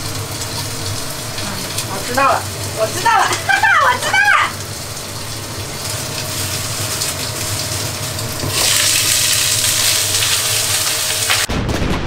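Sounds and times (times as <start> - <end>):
food sizzling in a pan: 0.0 - 11.5.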